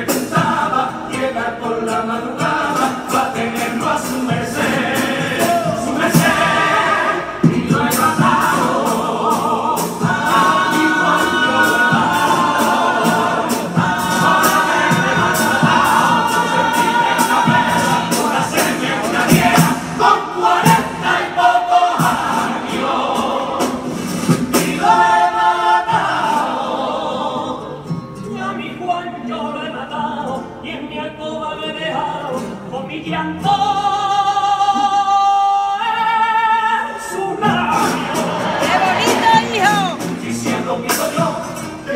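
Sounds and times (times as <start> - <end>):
strummed guitars: 0.0 - 36.1, 36.8 - 41.9
male choir singing in harmony: 0.0 - 41.9.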